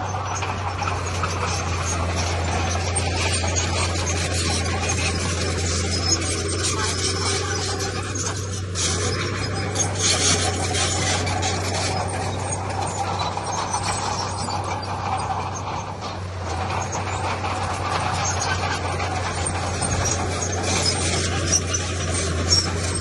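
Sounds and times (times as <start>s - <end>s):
diesel machinery engine hum: 0.0s - 23.0s
grinding and scraping: 0.0s - 23.0s.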